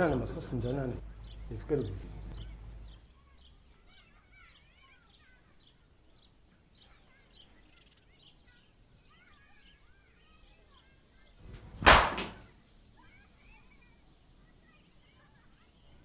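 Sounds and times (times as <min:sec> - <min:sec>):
birds chirping: 0:00.0 - 0:16.0
birds twittering: 0:00.0 - 0:16.0.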